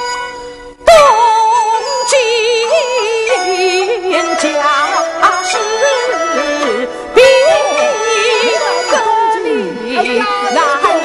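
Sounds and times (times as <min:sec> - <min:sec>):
traditional instrumental accompaniment: 0:00.0 - 0:11.0.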